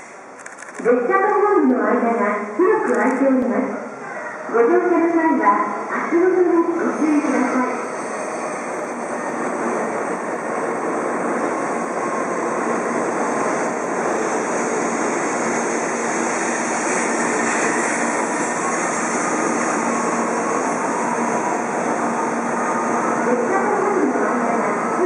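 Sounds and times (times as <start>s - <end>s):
train pulling into station: 0.0s - 25.0s.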